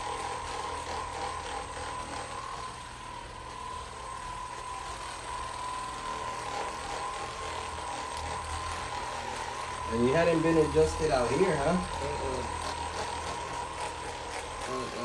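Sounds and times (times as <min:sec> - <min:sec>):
massager motor whining: 0:00.0 - 0:15.0.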